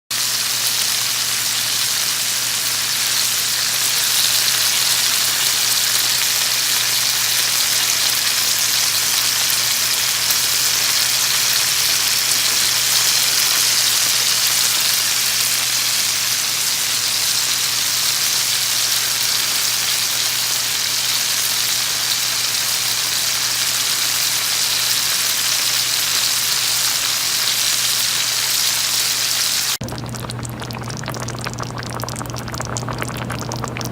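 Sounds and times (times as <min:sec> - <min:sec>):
sauce sizzling in a pan: 0:00.1 - 0:33.9.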